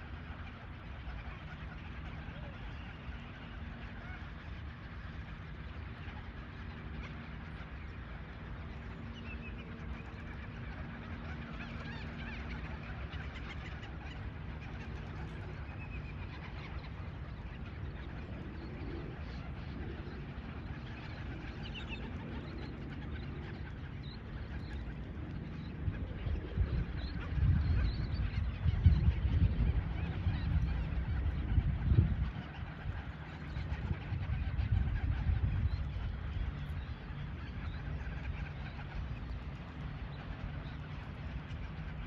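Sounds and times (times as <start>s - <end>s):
flock of birds chattering: 0.0s - 42.0s.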